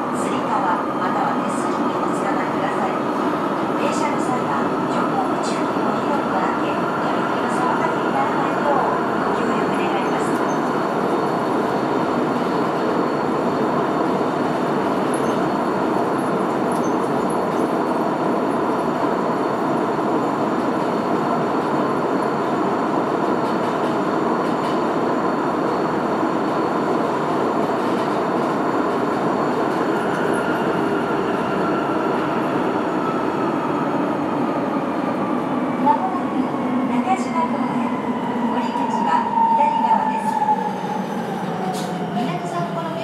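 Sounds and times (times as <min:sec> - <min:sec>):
subway train running in tunnel: 0:00.0 - 0:43.0.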